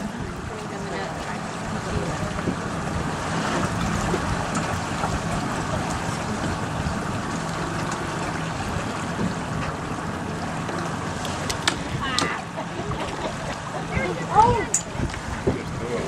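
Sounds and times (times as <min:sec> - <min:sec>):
boat motor humming: 0:00.0 - 0:16.0
water rushing past hull: 0:00.0 - 0:16.0.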